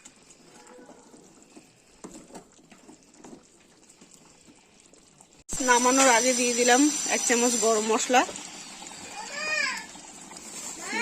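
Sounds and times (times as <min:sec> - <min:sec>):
curry simmering in a pan: 0:00.0 - 0:11.0.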